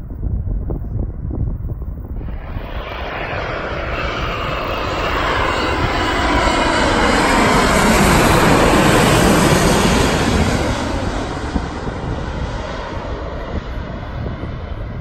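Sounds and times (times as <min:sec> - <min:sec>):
jet airliner passing overhead: 0:00.2 - 0:15.0.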